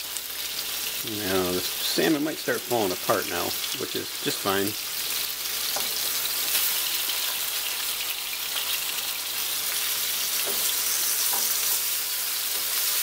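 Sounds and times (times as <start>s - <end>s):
fish sizzling in a skillet: 0.0s - 13.0s.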